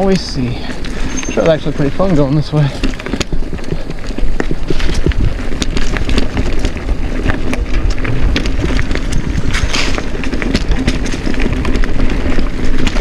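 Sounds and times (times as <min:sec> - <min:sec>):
bike frame and chain knocking: 0:00.0 - 0:13.0
tyres rumbling on rocky trail: 0:00.0 - 0:13.0.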